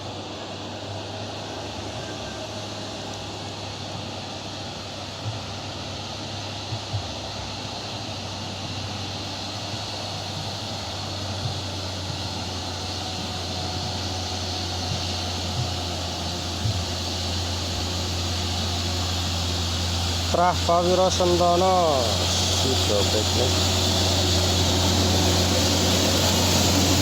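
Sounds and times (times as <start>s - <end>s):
bus diesel engine labouring: 0.0s - 27.0s.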